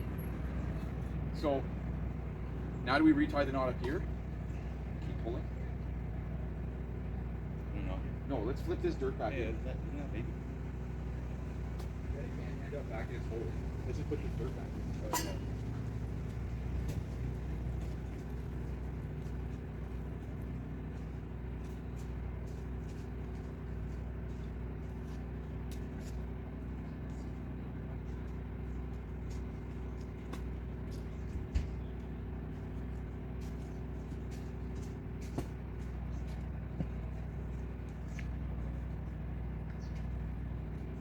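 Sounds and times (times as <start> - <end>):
truck engine idling: 0.0 - 41.0.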